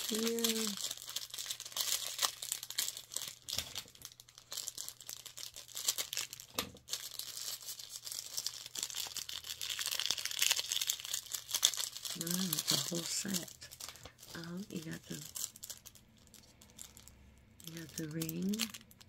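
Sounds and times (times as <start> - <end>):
packaging rustling and crackling: 0.0 - 19.0.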